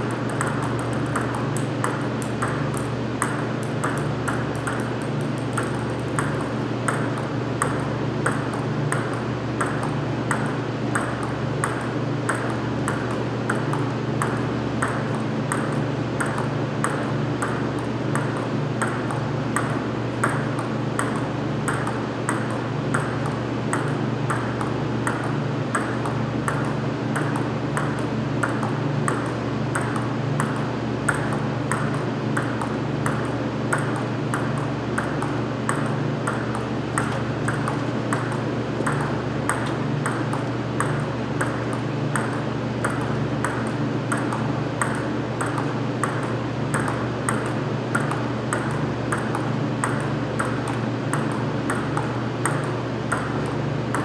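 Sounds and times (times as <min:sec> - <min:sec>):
steady low hum: 0:00.0 - 0:54.0
table tennis ball clicks: 0:00.0 - 0:54.0.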